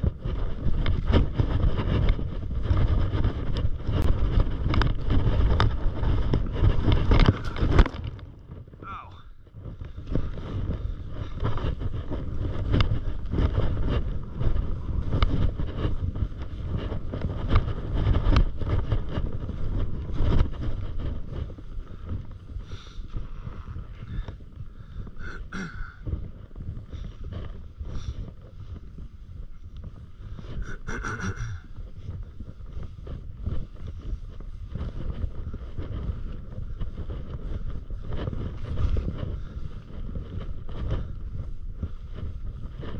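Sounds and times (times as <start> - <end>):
skis scraping over snow: 0.0 - 9.0, 9.6 - 42.9
wind rumbling on microphone: 0.0 - 42.9.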